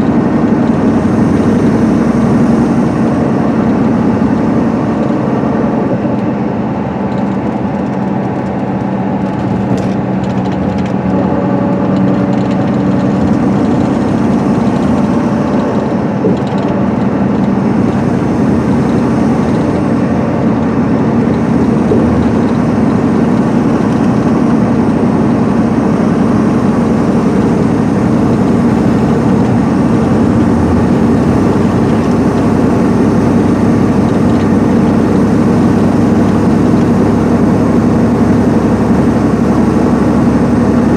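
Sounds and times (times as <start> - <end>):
diesel engine running evenly: 0.0 - 40.9
road and tyre noise: 0.0 - 40.9.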